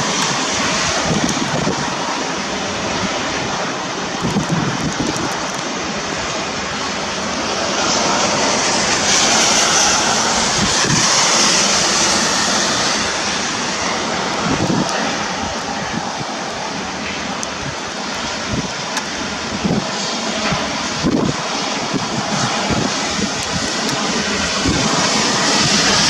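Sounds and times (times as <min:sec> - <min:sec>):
gusting wind: 0:00.0 - 0:26.0
heavy rain: 0:00.0 - 0:26.0
wind buffeting microphone: 0:00.0 - 0:26.0.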